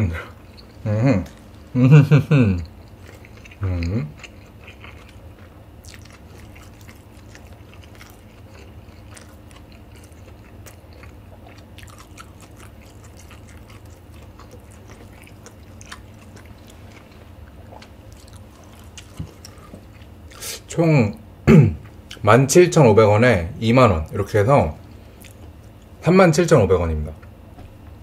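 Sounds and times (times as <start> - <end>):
man chewing food: 0.2 - 20.7, 21.7 - 22.2, 24.1 - 26.0.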